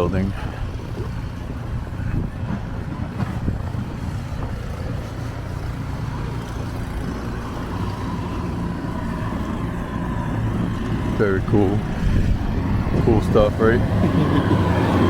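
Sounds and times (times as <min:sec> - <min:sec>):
snow plow engine rumbling: 0:00.0 - 0:15.0.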